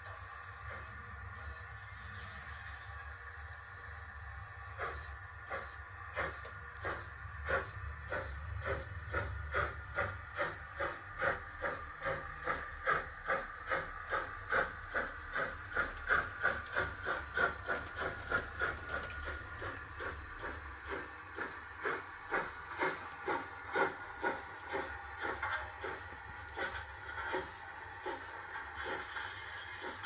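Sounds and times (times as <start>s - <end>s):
steady low hum: 0.0s - 30.0s
steam locomotive chuffs with hiss: 0.0s - 30.0s.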